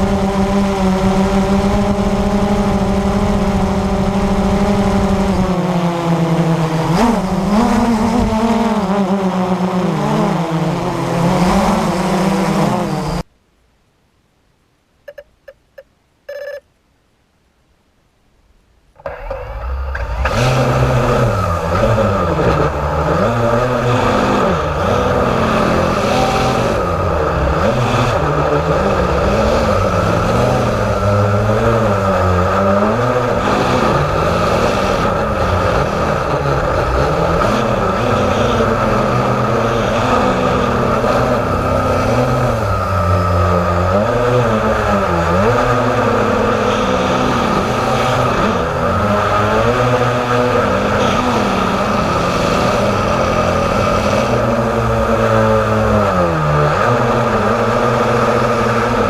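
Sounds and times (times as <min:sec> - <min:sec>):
quadcopter propellers buzzing: 0:00.0 - 0:13.3, 0:19.2 - 0:59.0.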